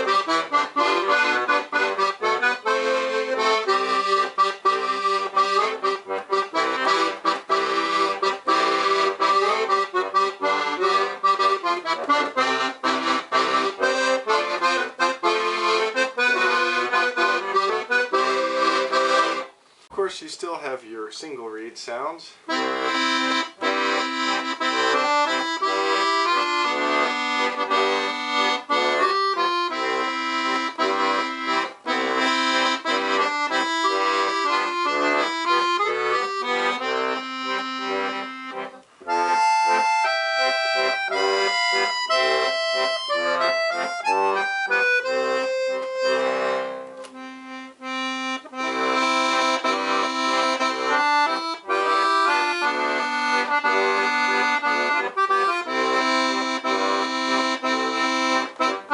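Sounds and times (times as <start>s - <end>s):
piano accordion playing a tune: 0.0s - 19.6s, 22.5s - 58.9s.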